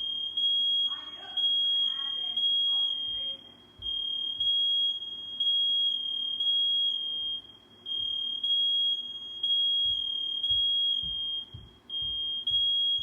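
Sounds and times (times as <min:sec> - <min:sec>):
smoke alarm beeping: 0:00.0 - 0:13.0.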